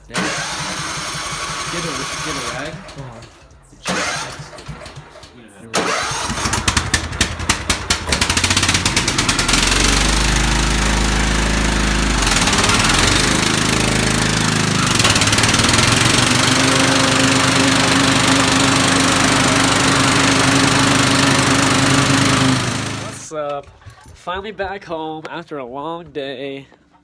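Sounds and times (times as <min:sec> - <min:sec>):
car engine starting and idling: 0:00.0 - 0:24.2.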